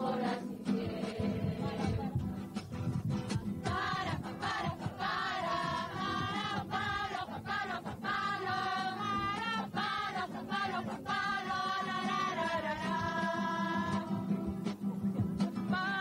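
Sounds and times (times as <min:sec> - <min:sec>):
choir singing: 0:00.0 - 0:02.7, 0:03.4 - 0:14.6, 0:15.6 - 0:16.0.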